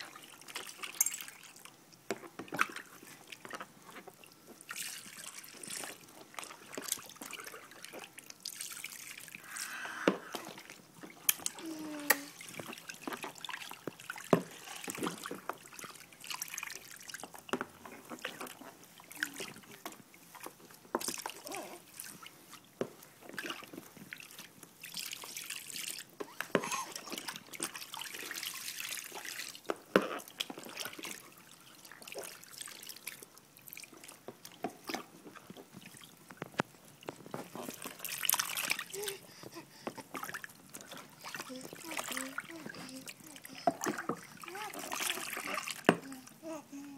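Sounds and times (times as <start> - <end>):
bathwater splashing: 0.0 - 46.9.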